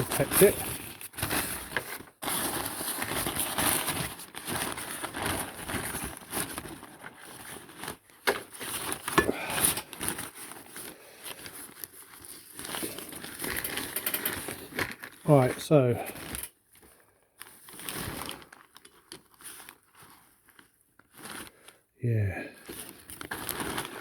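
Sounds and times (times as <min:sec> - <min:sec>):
paper rustling and crinkling: 0:00.0 - 0:21.8, 0:22.6 - 0:24.0.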